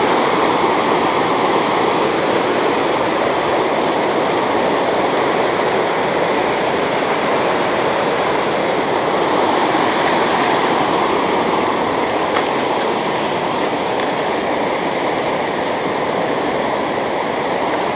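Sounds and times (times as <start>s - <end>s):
stream rushing over rocks: 0.0s - 17.9s.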